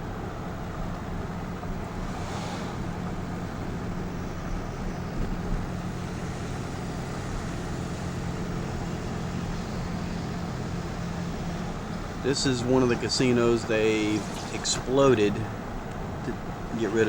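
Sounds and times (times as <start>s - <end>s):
low hum: 0.0s - 16.5s
car engine and road noise: 0.0s - 17.0s.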